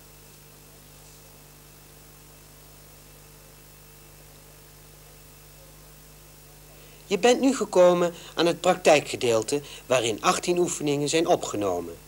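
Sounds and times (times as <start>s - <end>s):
faint mains hum with hiss: 0.0s - 12.0s.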